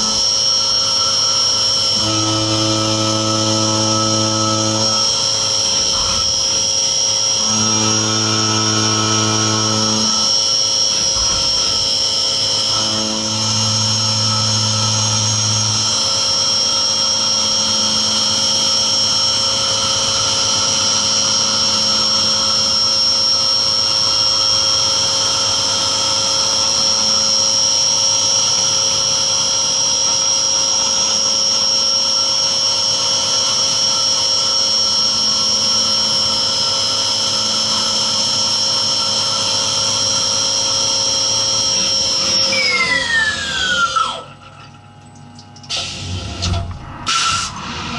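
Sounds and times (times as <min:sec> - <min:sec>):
machine spindle whining: 0:00.0 - 0:47.9.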